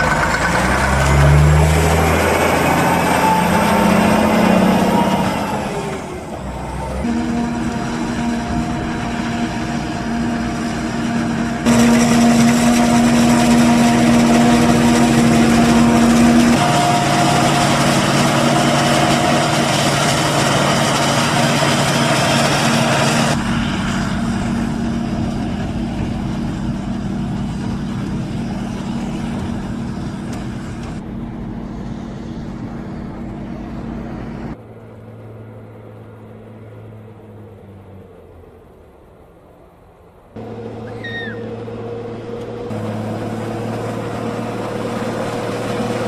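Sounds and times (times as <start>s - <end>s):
forage harvester running: 0.0s - 37.6s, 40.4s - 46.0s
tractor engine running: 0.0s - 46.0s.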